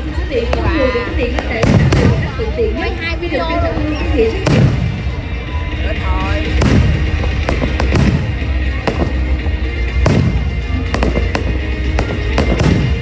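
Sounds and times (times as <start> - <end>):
background music: 0.0 - 13.0
fireworks bangs: 0.0 - 13.0.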